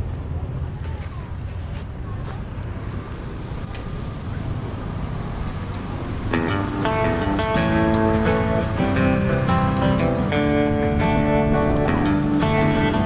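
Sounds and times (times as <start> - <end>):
faint voices of passers-by: 0.0 - 13.0
low rumble of motorbike traffic: 0.0 - 13.0.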